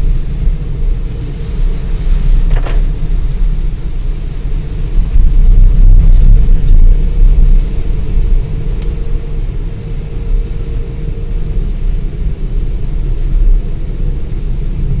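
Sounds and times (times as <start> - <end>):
car driving on a wet road: 0.0 - 15.0.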